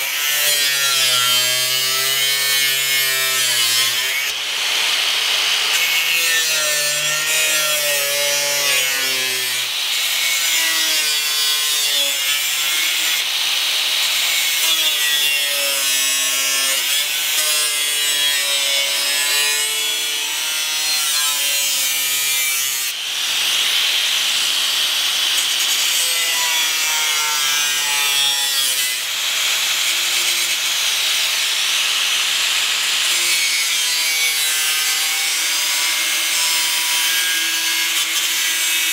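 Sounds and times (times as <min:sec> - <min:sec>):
angle grinder cutting metal: 0:00.0 - 0:38.9.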